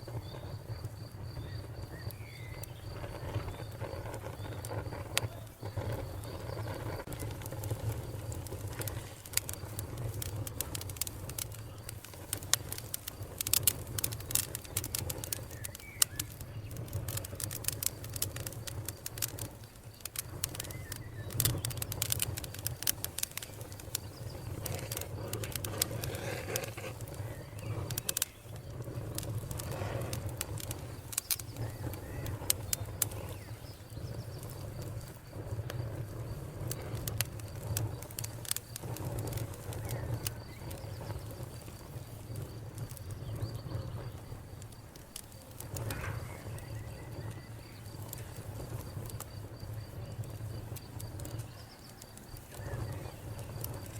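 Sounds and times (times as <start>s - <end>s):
low rumble of burning logs: 0.0s - 53.9s
wood fire crackling: 0.0s - 53.9s.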